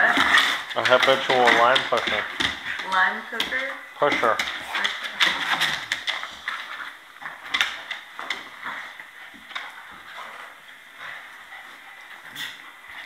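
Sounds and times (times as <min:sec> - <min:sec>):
low room hiss: 0:00.0 - 0:13.0.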